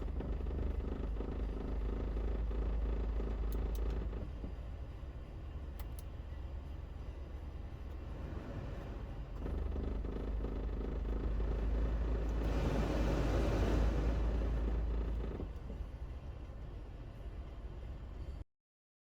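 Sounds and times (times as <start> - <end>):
van engine rumbling: 0.0 - 18.4.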